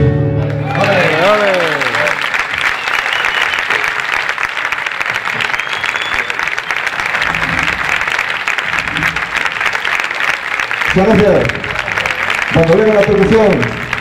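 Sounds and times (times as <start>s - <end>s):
audience applauding: 0.4s - 14.0s.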